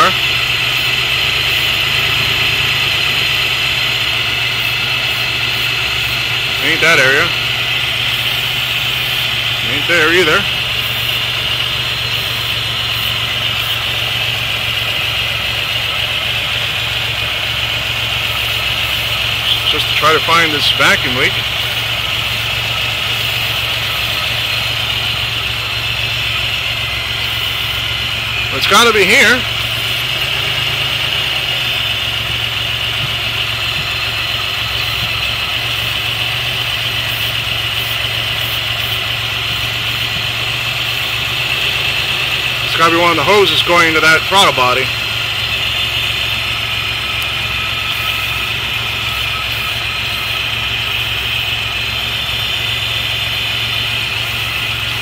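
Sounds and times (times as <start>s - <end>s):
car engine rough idle: 0.0s - 55.0s.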